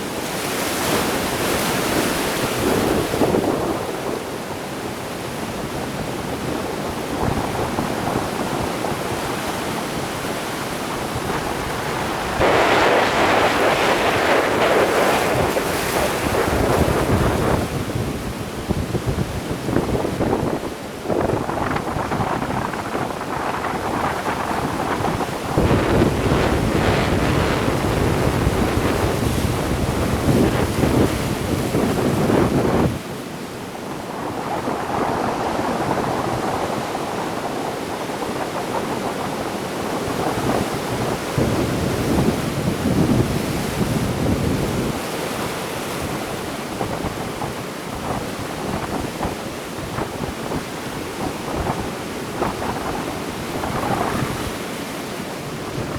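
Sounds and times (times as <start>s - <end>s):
sea waves washing on shore: 0.0s - 55.9s
wind buffeting microphone: 0.9s - 33.2s, 33.8s - 55.9s.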